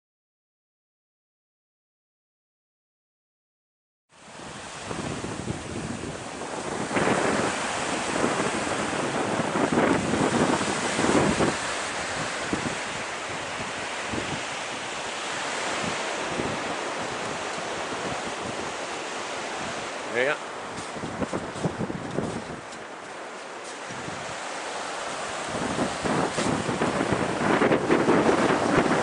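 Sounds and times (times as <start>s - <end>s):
ocean surf on beach: 4.1s - 29.0s
wind buffeting microphone: 4.3s - 29.0s.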